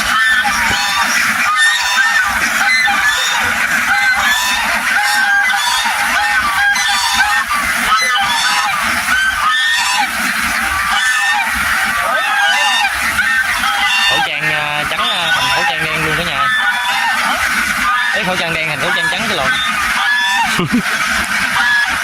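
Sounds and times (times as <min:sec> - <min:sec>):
ducks quacking: 0:00.0 - 0:22.0.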